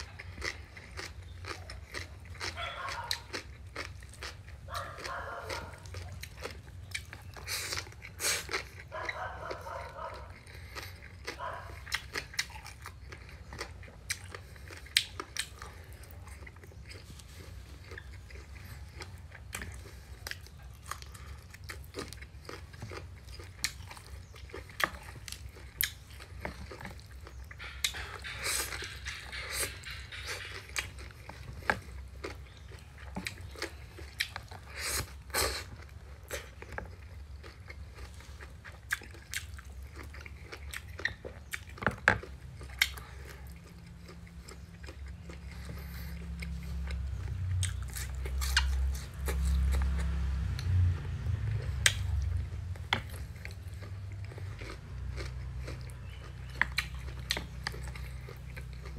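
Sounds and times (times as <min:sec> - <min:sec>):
person chewing food: 0:00.0 - 0:58.9.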